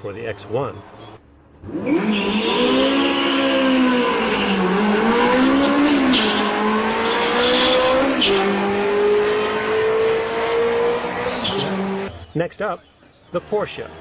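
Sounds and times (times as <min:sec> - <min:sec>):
car engine accelerating with upshifts: 0:00.8 - 0:12.3.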